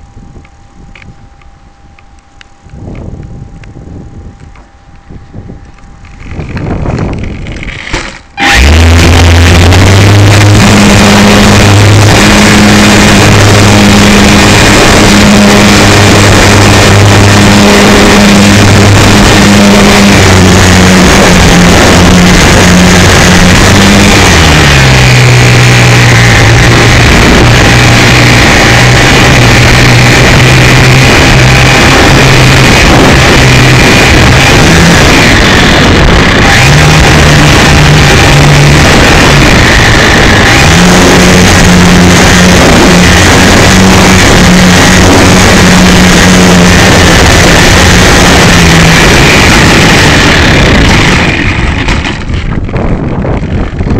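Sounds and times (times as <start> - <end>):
wind rush: 0.0 - 53.9
electric motor buzzing: 5.4 - 52.4.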